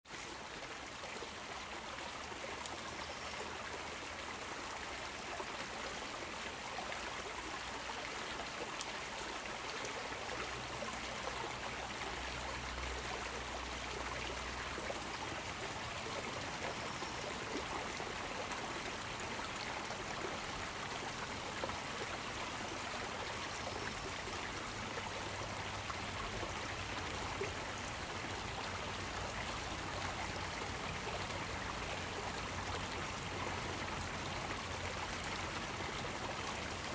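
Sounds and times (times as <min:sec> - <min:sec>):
stream babbling over rocks: 0:00.0 - 0:36.9.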